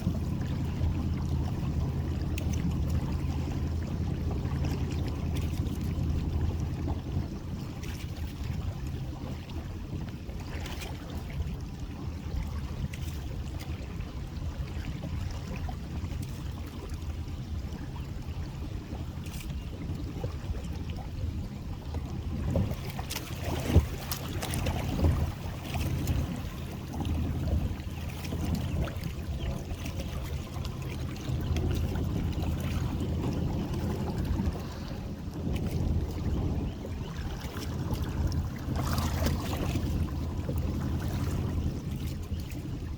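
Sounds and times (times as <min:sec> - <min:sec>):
small boat motor running: 0:00.0 - 0:42.9
wind buffeting microphone: 0:00.0 - 0:42.9.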